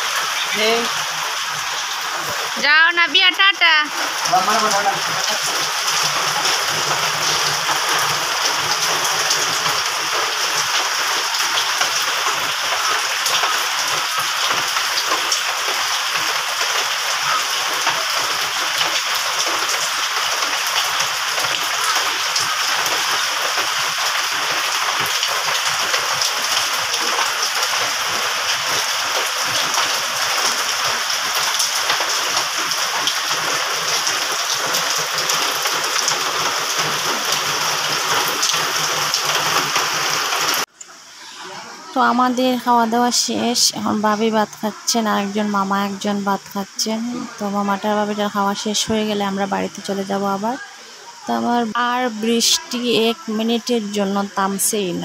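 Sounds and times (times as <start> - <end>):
heavy rain on wet ground: 0.0 - 55.0.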